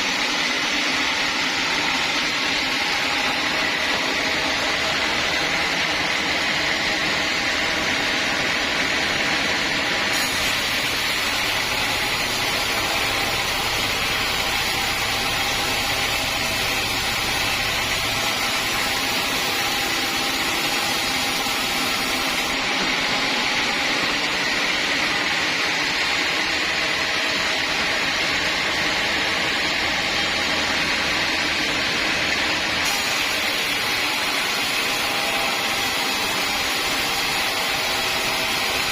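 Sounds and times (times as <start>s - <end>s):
sawmill saw running: 0.0s - 38.9s.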